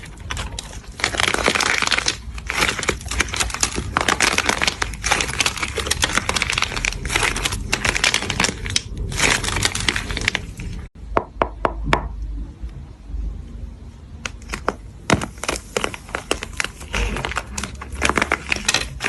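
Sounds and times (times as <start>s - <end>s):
continuous crackling and crunching: 0.0s - 10.9s, 14.2s - 19.0s.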